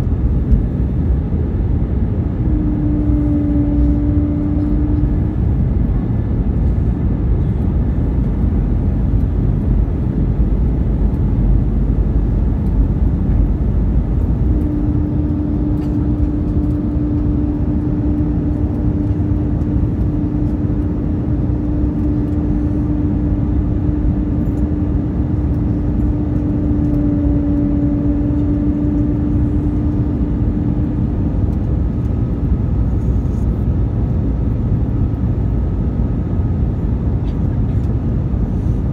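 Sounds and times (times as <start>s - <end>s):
airflow rushing in aircraft cabin: 0.0s - 38.9s
jet engines: 0.0s - 38.9s
steady hum: 0.0s - 38.9s.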